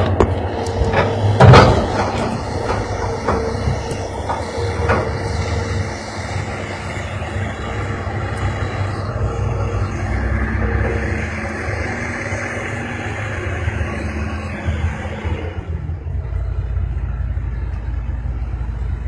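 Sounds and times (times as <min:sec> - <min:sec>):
diesel earthmoving machinery running: 0:00.0 - 0:19.0.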